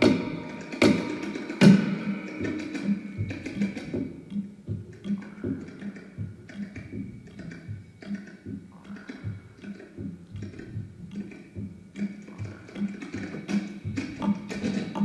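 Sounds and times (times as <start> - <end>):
quiet rhythmic percussion music: 0.0 - 15.0.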